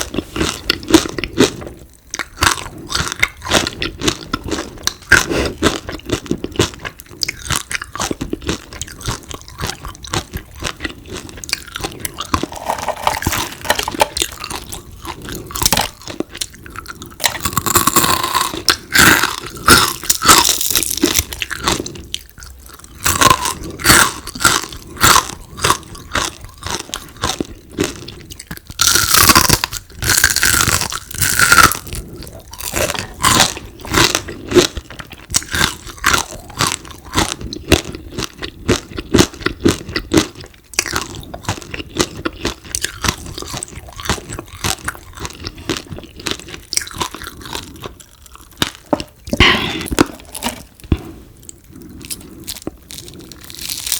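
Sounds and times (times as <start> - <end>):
close chewing of crispy food: 0.0 - 53.9.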